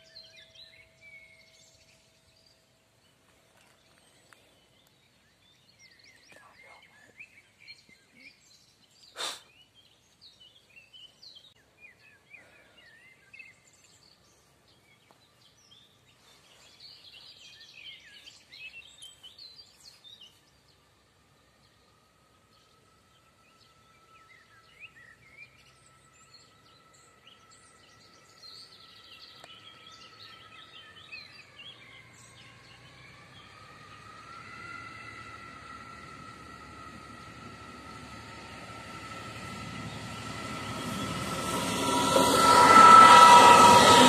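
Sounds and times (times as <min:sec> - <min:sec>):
small birds chirping: 0:00.0 - 0:20.9, 0:21.5 - 0:41.4.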